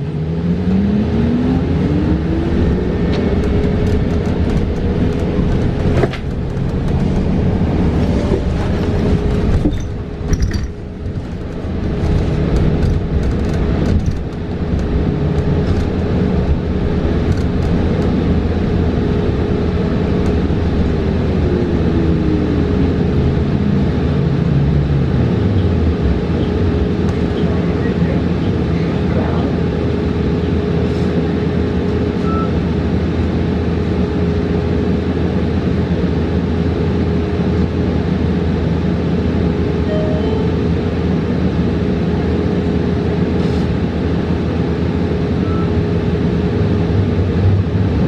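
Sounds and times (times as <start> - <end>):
electric bus motor whining: 1.7 - 46.5
road and cabin rattle: 2.2 - 48.0.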